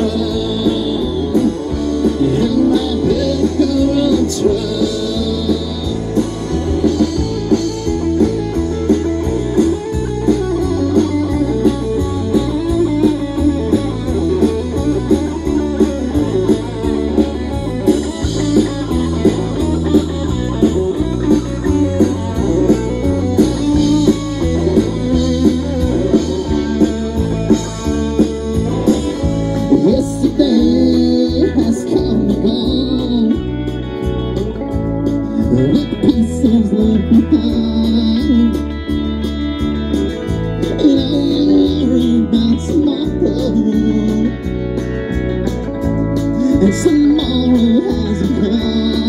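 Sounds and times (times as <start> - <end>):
bass guitar: 0.0 - 49.0
electric guitars: 0.0 - 49.0
steady drum beat: 0.0 - 49.0.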